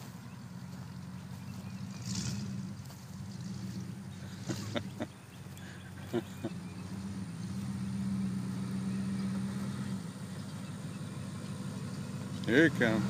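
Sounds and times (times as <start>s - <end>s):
pickup engine running low: 0.0s - 13.0s.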